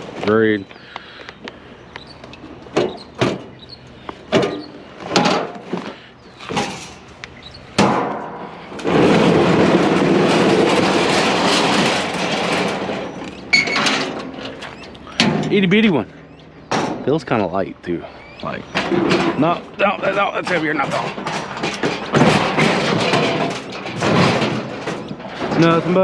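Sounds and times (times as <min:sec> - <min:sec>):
scrap metal clanking: 0:02.0 - 0:17.4, 0:18.1 - 0:26.0.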